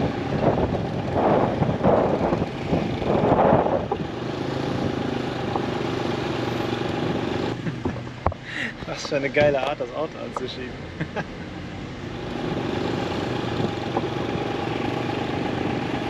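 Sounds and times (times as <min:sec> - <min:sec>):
motorcycle and car engines: 0:00.0 - 0:16.0.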